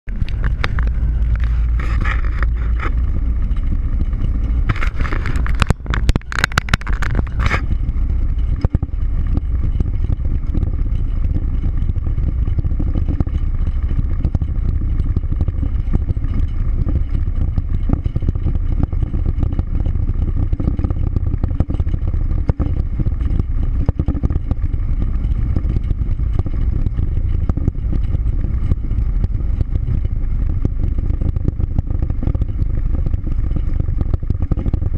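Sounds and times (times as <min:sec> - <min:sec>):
vehicle engine and road rumble: 0:00.0 - 0:34.9
wind noise: 0:00.0 - 0:34.9.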